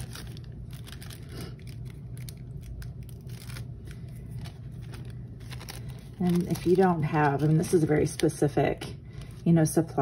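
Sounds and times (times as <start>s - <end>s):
steady low hum: 0.0s - 10.0s
thin paper crackling: 0.0s - 10.0s.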